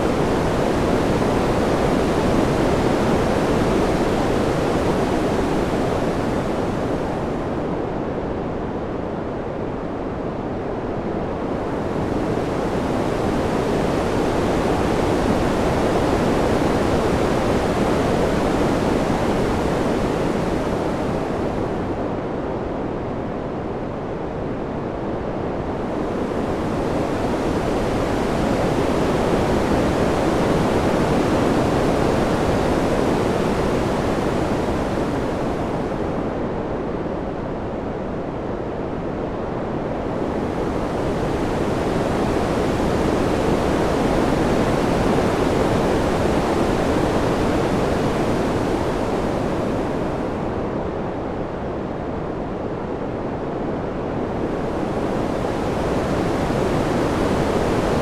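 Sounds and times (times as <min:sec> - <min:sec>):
wind noise: 0:00.0 - 0:58.0.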